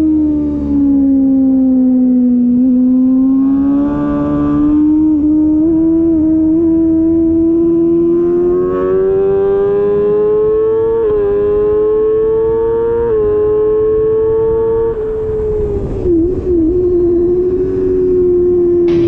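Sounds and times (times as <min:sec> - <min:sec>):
superbike engine at high revs: 0:00.0 - 0:19.0.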